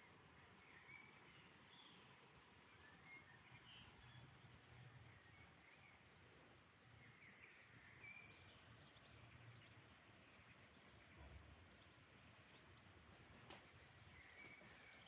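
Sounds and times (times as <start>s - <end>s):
bird chirps: 0.0s - 6.3s, 6.9s - 15.0s.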